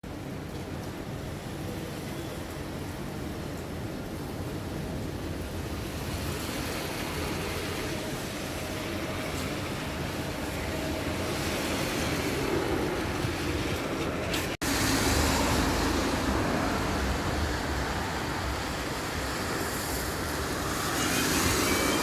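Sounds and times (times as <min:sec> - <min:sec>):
heavy rain falling: 0:00.1 - 0:22.0.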